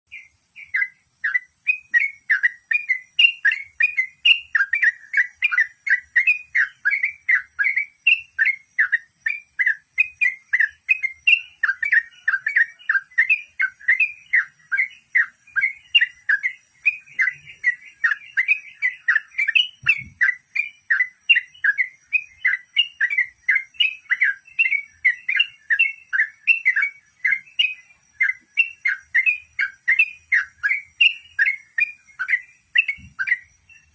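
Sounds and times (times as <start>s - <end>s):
bird singing rapid chirps: 0.1s - 33.9s.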